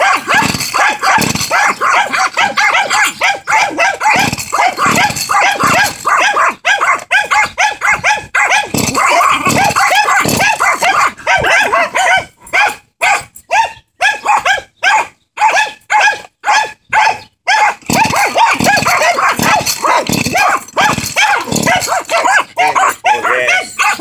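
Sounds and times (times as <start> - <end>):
dog yapping: 0.0 - 24.0.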